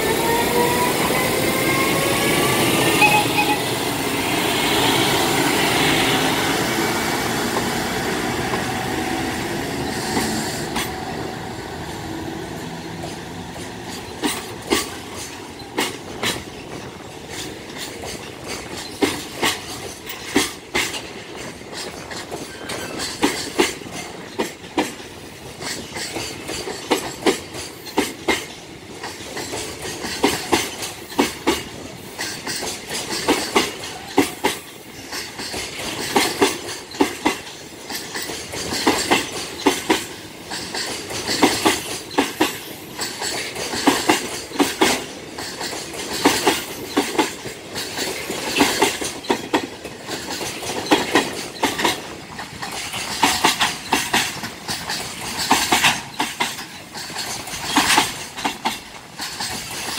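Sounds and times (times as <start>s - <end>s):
train rolling rumble: 0.0s - 59.9s
train wheels clicking over rail joints: 0.0s - 59.9s.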